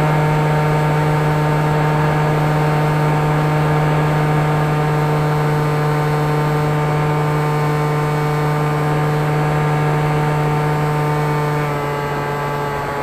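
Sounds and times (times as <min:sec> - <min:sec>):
drone motors humming: 0:00.0 - 0:13.0.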